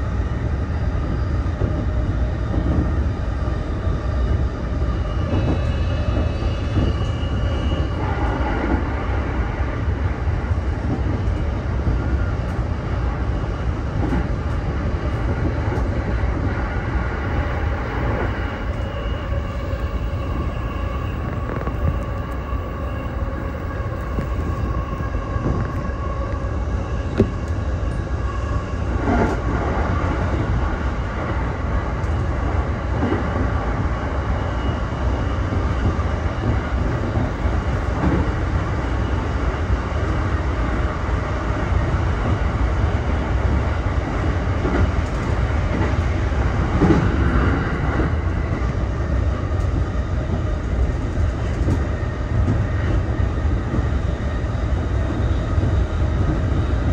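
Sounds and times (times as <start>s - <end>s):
electric train rumbling: 0.0s - 56.9s.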